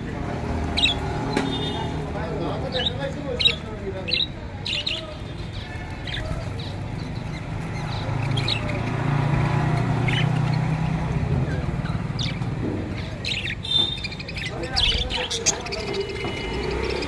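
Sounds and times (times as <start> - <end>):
budgerigars chirping: 0.6 - 9.2, 9.8 - 17.0.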